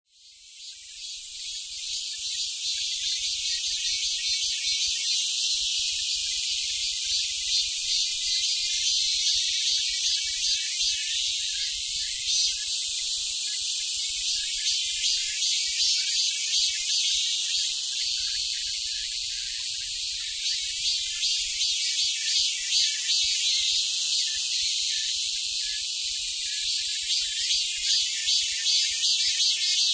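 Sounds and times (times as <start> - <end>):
cicada buzzing song: 0.1 - 29.9.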